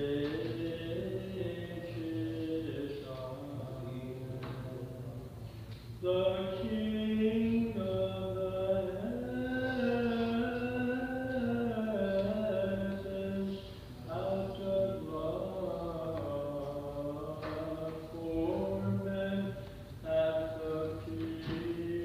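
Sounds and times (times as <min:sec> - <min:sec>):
person chanting slow melody: 0:00.0 - 0:22.0.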